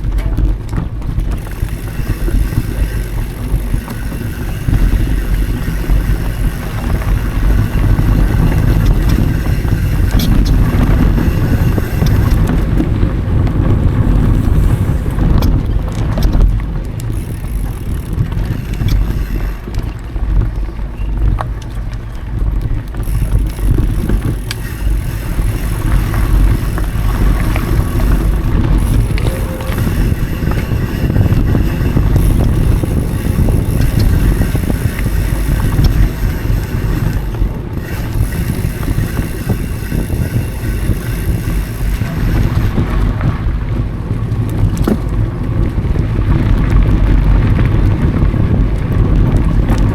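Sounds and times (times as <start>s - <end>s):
bike rattling clicks and knocks: 0.0s - 49.9s
bike tyres rumbling on dirt: 0.0s - 49.9s
wind on microphone: 0.0s - 49.9s.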